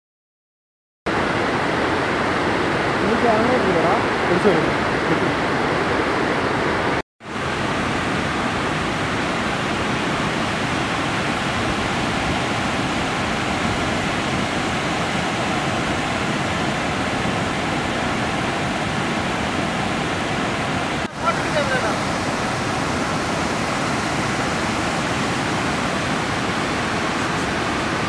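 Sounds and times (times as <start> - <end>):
river rushing over rocks: 1.1 - 28.0.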